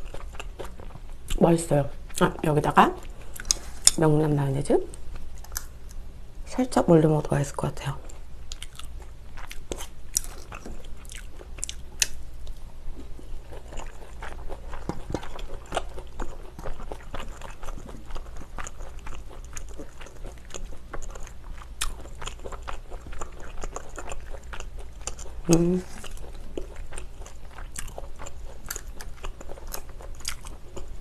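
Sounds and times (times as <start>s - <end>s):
close chewing and biting: 0.0s - 4.1s, 8.1s - 31.0s.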